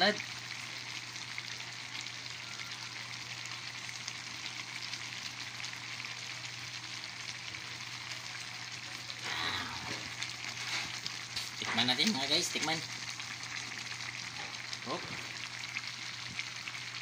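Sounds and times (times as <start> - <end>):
broth bubbling and sizzling: 0.0 - 17.0.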